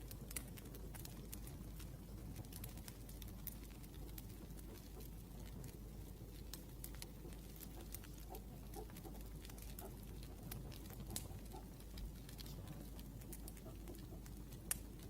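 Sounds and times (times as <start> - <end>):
low steady hum: 0.0 - 15.0
wood fire crackling: 0.0 - 15.0.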